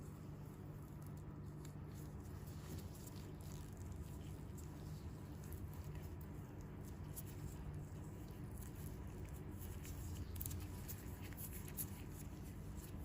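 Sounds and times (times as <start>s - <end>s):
hands rubbing skin crackling: 0.9s - 13.0s.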